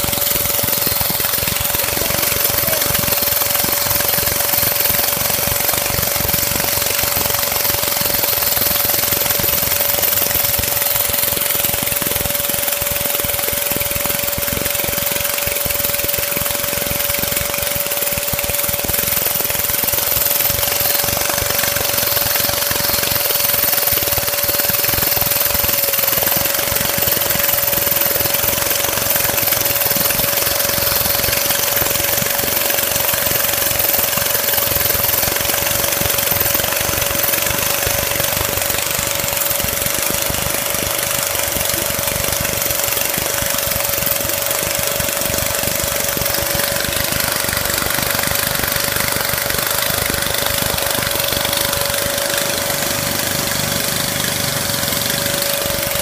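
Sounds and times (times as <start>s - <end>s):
compressed-air engine chattering: 0.0s - 56.0s
steady whine: 0.0s - 56.0s.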